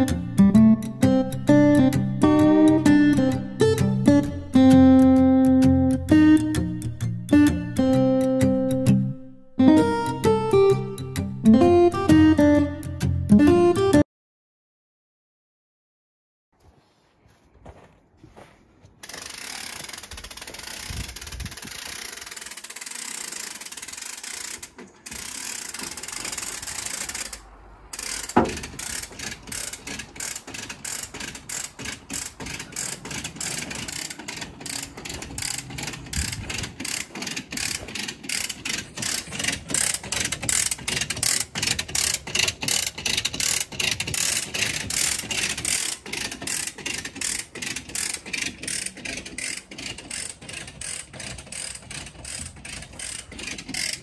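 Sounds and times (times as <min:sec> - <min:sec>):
ratchet winch clicking: 0:00.0 - 0:11.6, 0:19.0 - 0:54.0.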